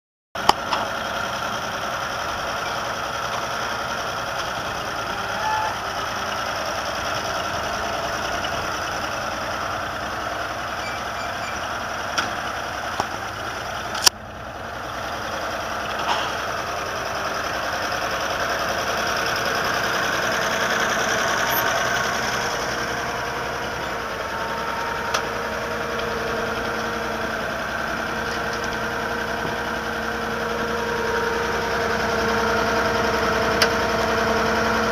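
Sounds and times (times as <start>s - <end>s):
tractor engine idling: 0.4s - 34.9s.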